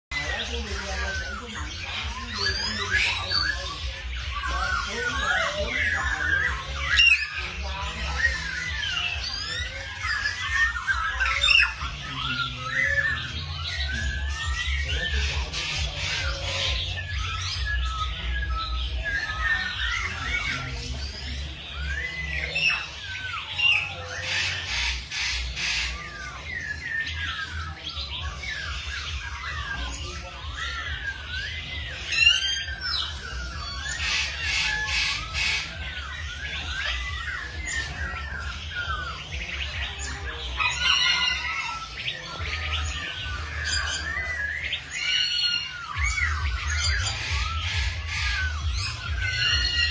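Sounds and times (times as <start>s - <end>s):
chorus of bird chirps and squawks: 0.0s - 49.9s.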